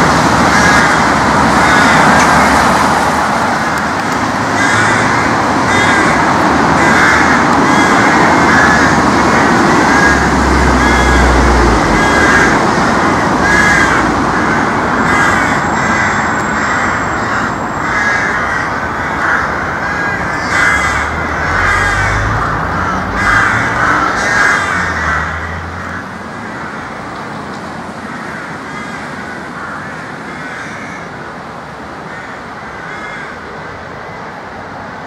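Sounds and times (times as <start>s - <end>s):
low traffic rumble: 0.0s - 35.0s
crows cawing: 0.3s - 27.1s, 27.9s - 31.3s, 32.0s - 34.2s.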